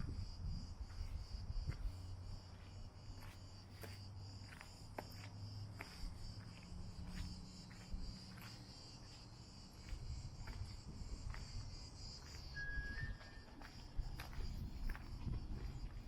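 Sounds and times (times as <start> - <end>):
insects chirring: 0.0 - 16.0
footsteps on a path: 0.8 - 16.0.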